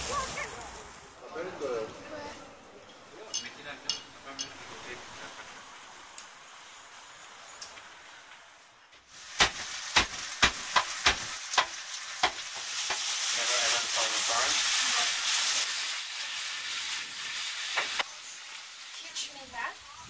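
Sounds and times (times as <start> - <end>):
food sizzling in hot oil: 0.0 - 1.2, 3.0 - 20.0.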